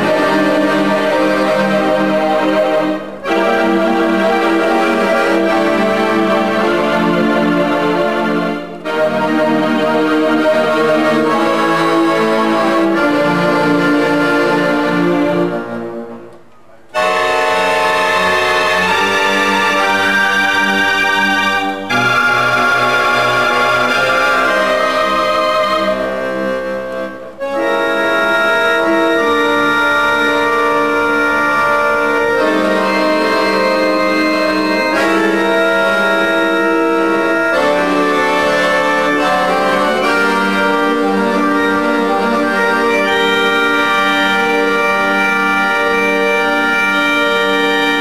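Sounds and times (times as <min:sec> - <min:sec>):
accordion playing chords: 0:00.0 - 0:48.0.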